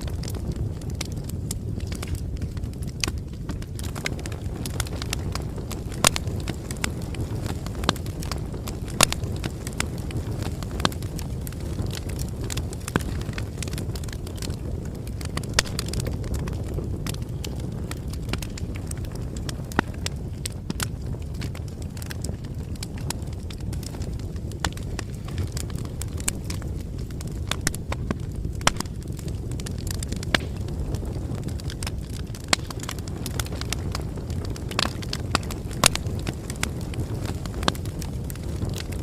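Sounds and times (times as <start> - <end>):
campfire crackling: 0.0 - 39.0
low rumble of burning fire: 0.0 - 39.0.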